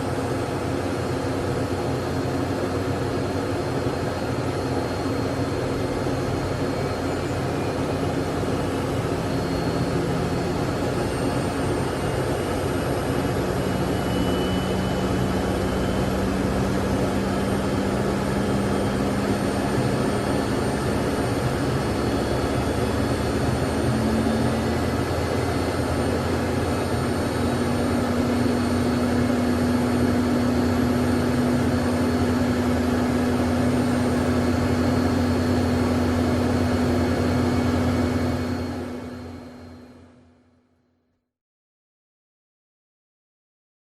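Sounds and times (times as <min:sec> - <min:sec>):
jet engines idling: 0:00.0 - 0:40.2.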